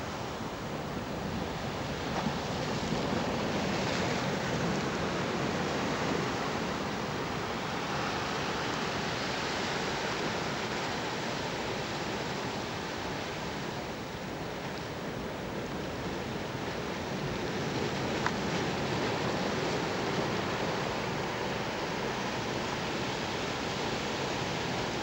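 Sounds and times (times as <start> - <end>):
choppy sea water: 0.0 - 25.0.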